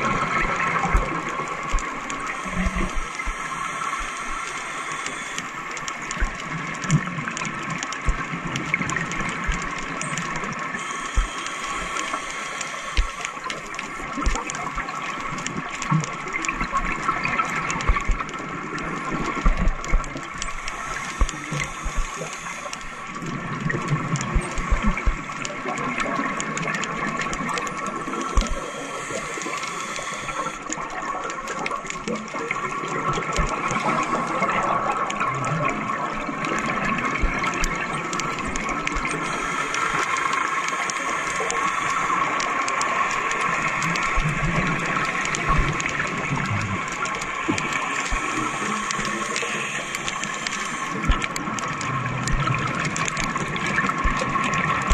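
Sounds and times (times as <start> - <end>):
underwater bubbling of exhaled air: 0.0 - 54.9.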